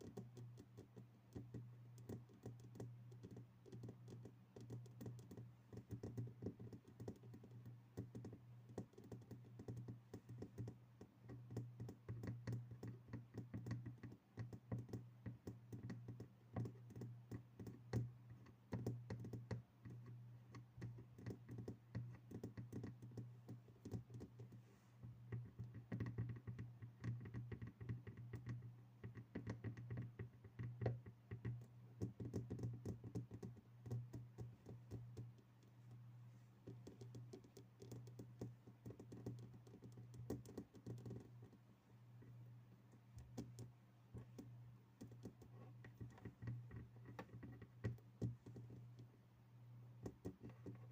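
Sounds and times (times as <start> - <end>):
fingertip tapping on objects: 0.0 - 24.6, 25.3 - 41.6, 42.2 - 49.1, 50.0 - 50.9.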